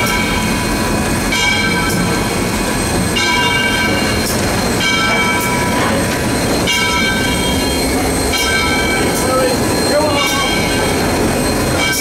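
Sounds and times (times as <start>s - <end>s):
high metallic ringing: 0.0s - 12.0s
steam locomotive running: 0.0s - 12.0s.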